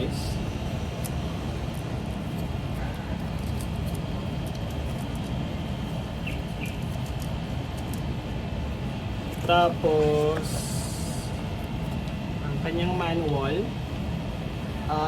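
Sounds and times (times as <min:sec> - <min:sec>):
steady low background hum: 0:00.0 - 0:15.0.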